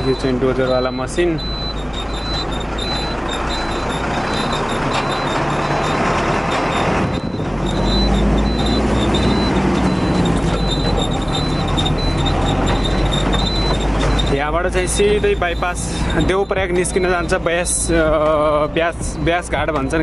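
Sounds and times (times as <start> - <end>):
road and cab noise: 0.0 - 20.0
truck engine rumble: 0.0 - 20.0.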